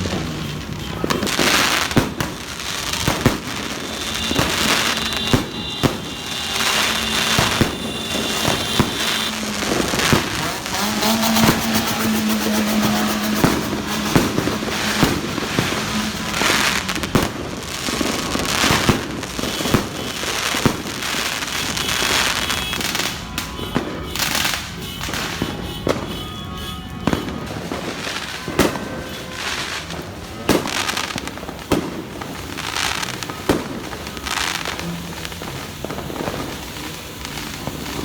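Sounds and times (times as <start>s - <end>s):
firework bangs: 0.0s - 38.0s
fireworks crackling and popping: 0.0s - 38.0s.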